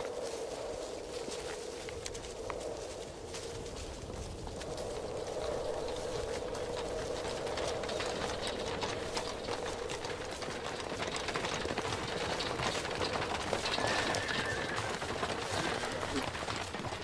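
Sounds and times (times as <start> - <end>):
hooves clopping: 0.0 - 17.0.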